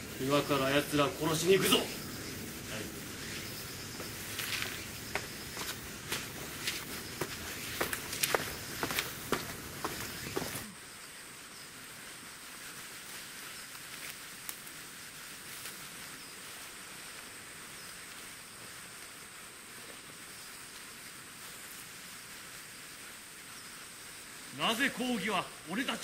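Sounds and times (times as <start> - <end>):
high-pitched insect buzz: 0.0 - 24.6.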